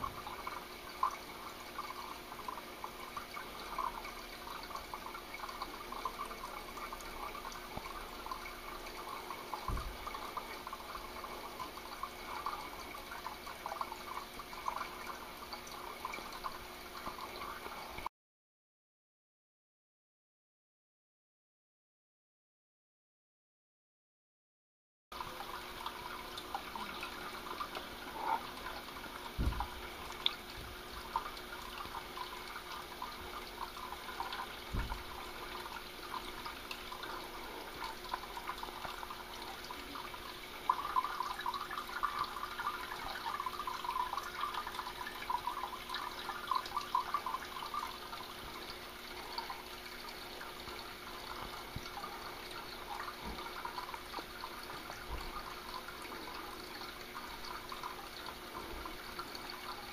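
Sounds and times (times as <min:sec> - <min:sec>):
faint steady hum: 0:00.0 - 0:18.1, 0:25.2 - 0:59.9
water trickling and dripping: 0:00.0 - 0:18.1, 0:25.2 - 0:59.9.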